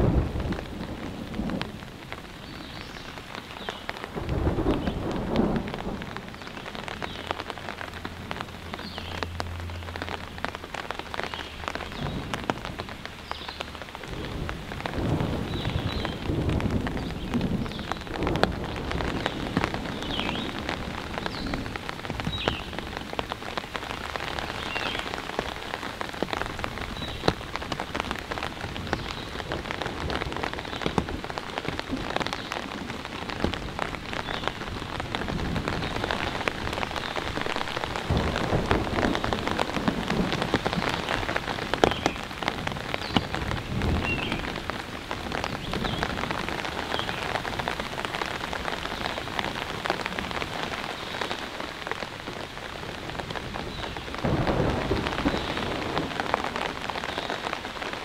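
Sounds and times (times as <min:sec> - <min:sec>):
rain falling on foliage: 0:00.0 - 0:58.0.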